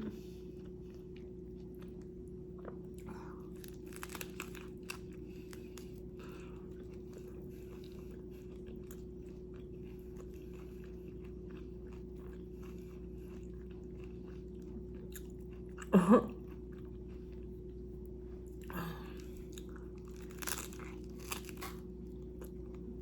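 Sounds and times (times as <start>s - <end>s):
steady low hum: 0.0s - 23.0s
close chewing: 0.5s - 23.0s.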